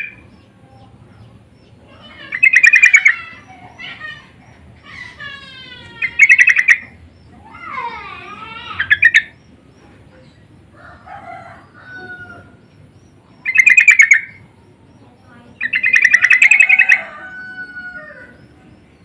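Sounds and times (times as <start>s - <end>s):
birds chattering: 0.0s - 19.0s.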